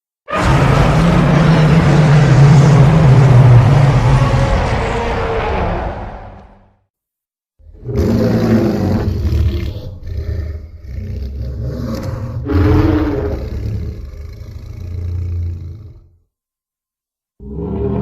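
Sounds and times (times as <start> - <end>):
cartoon creature roaring: 0.3 - 6.2, 7.7 - 16.1, 17.4 - 18.0.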